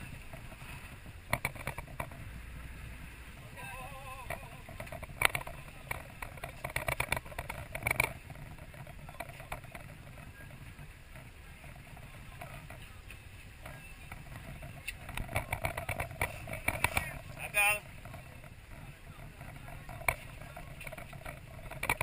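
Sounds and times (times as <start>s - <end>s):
clicks and clatter: 0.0s - 2.2s, 4.1s - 22.0s
boat engine rumble: 0.0s - 22.0s
wind on microphone: 0.0s - 22.0s.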